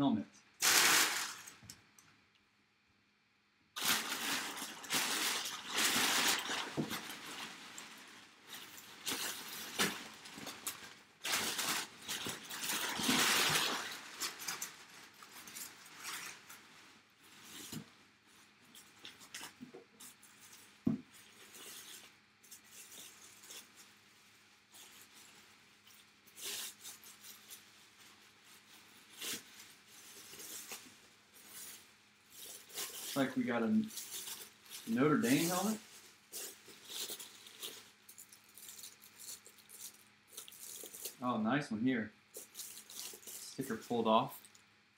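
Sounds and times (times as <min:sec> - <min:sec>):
packaging rustling and crinkling: 0:00.6 - 0:01.6, 0:03.8 - 0:41.2, 0:42.3 - 0:44.7.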